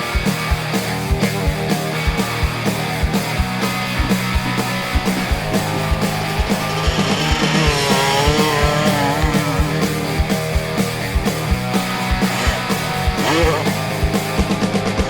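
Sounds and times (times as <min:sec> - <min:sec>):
driving drum beat: 0:00.0 - 0:15.0
guitar: 0:00.0 - 0:15.0
rock music: 0:00.0 - 0:15.0.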